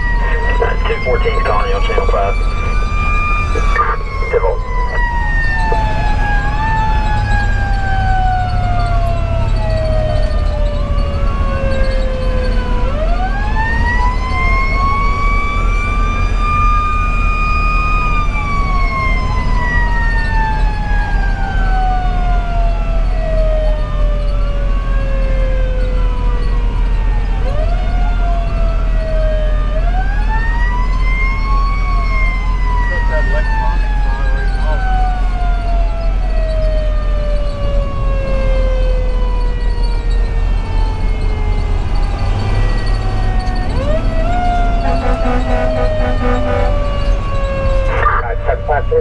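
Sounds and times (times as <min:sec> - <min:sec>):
diesel engine rumble: 0:00.0 - 0:49.0
electronic siren wailing: 0:00.0 - 0:49.0.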